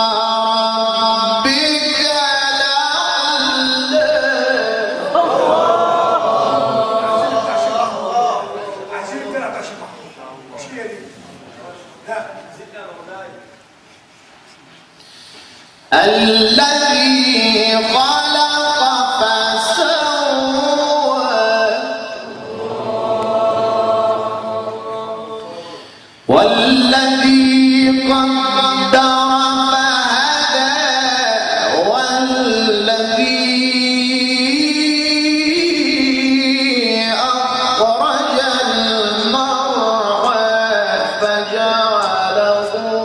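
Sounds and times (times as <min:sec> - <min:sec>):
man reciting melodically: 0:00.0 - 0:13.7, 0:15.0 - 0:43.0.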